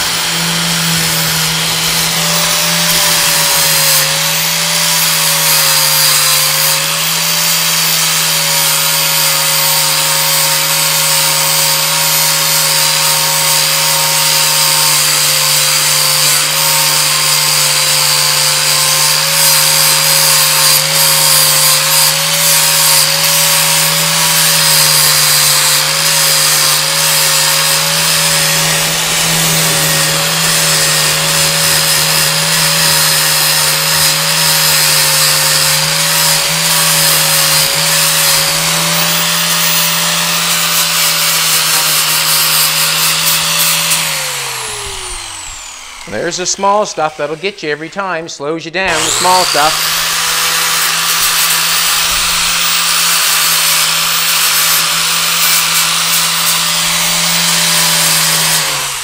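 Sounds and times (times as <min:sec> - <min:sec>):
angle grinder motor whine: 0:00.0 - 0:47.5, 0:48.8 - 0:59.0.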